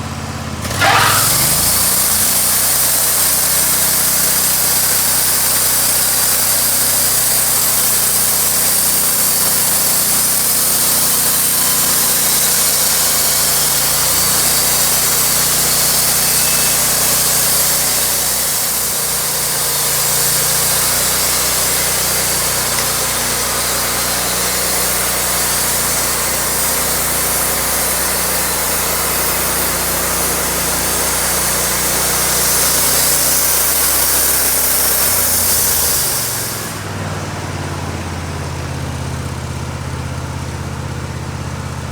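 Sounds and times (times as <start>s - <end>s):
sawmill engine running: 0.0s - 41.9s
saw blade hissing: 0.6s - 36.9s.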